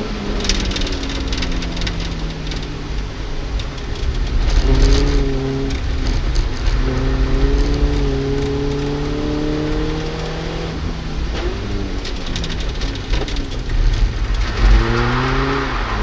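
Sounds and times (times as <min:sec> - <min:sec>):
car engine accelerating: 0:00.0 - 0:16.0
road and rain noise: 0:00.0 - 0:16.0.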